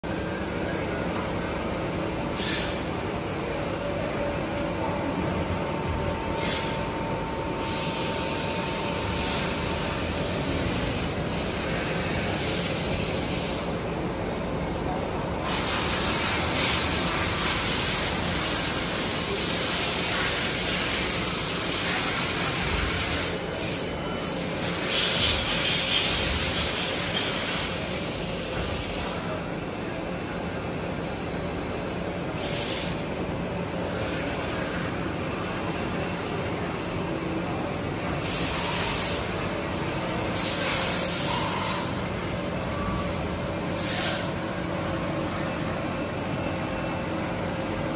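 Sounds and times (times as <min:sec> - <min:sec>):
machining centre whirring: 0:00.0 - 0:47.9.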